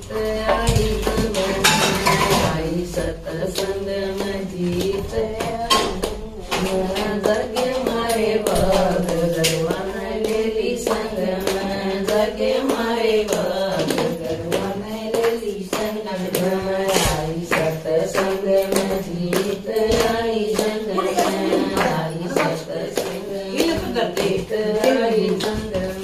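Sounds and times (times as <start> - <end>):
women singing a hymn in unison: 0.0 - 26.0
hands clapping on a beat: 0.2 - 26.0.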